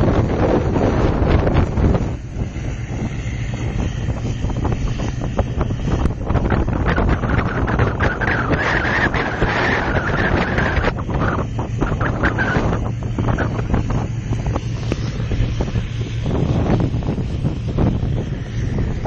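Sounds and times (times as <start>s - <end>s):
low ferry engine hum: 0.0s - 19.0s
wind buffeting microphone: 0.0s - 19.0s.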